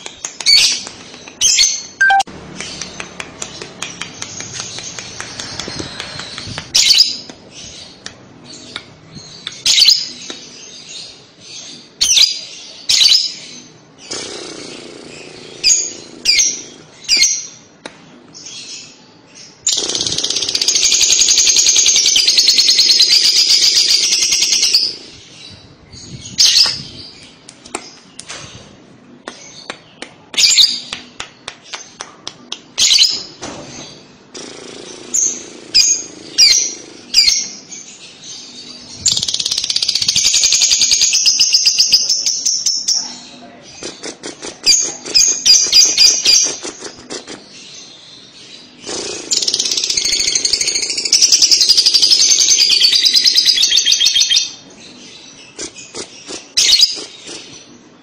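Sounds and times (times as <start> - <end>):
lovebird chirping and chattering: 0.3 - 17.6, 18.4 - 28.0, 34.4 - 57.7.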